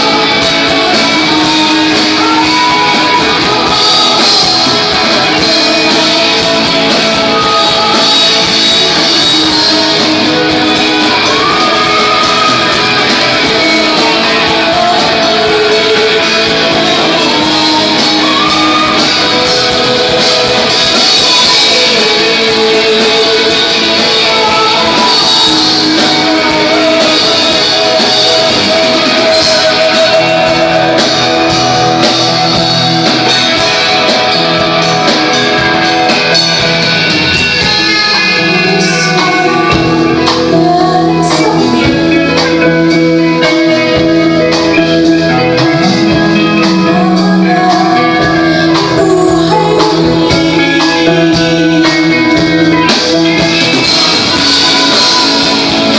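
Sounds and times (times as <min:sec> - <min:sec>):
electric guitars: 0:00.0 - 0:55.9
person singing: 0:00.0 - 0:55.9.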